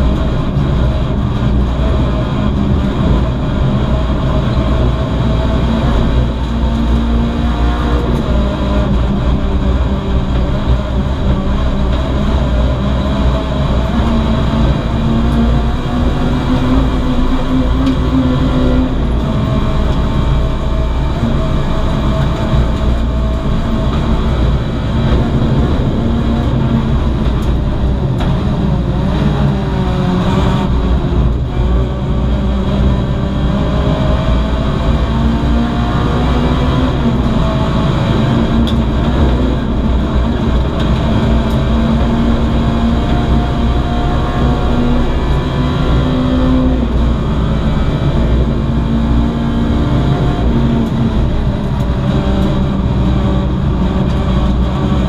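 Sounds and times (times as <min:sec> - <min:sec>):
race car engine running hard: 0:00.0 - 0:55.0
road and tyre rumble: 0:00.0 - 0:55.0.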